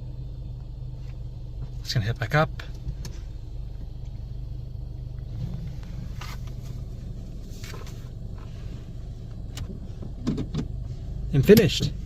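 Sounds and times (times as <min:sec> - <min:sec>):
car wash rumble inside car: 0:00.0 - 0:12.0.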